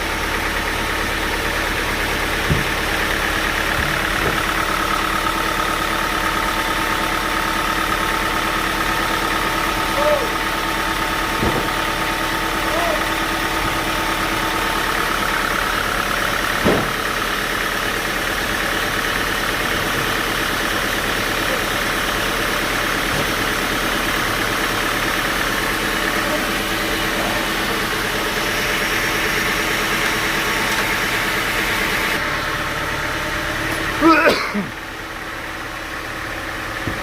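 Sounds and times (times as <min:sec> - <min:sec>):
sawmill machinery humming: 0:00.0 - 0:37.0.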